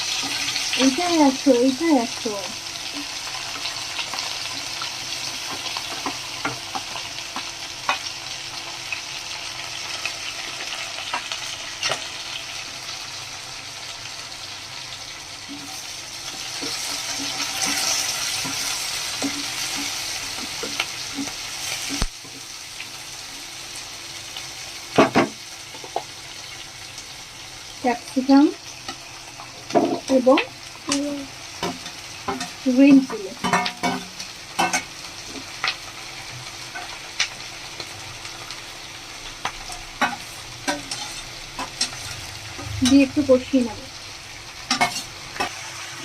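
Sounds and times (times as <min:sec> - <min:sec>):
onion and garlic sizzling in oil: 0:00.0 - 0:46.0.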